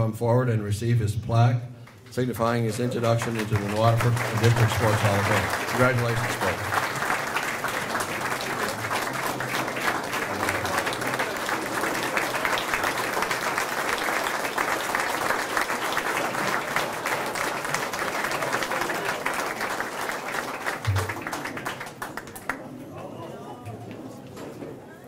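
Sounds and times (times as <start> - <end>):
crowd applauding: 1.9 - 24.0.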